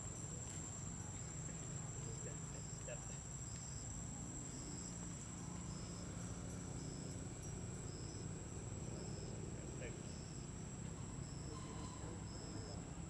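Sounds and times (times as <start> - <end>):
insect chirps: 0.0 - 13.0
insect high-pitched drone: 0.0 - 13.0.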